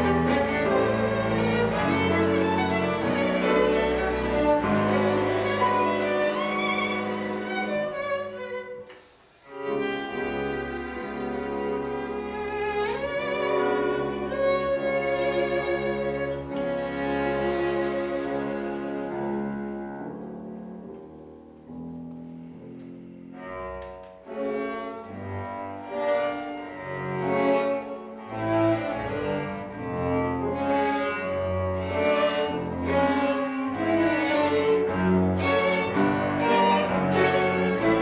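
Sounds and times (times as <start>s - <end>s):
violin cello and piano playing: 0.0s - 38.0s.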